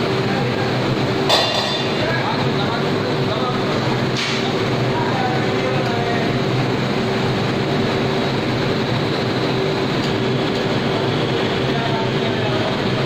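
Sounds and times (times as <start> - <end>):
mechanical stirrer running: 0.0 - 13.0.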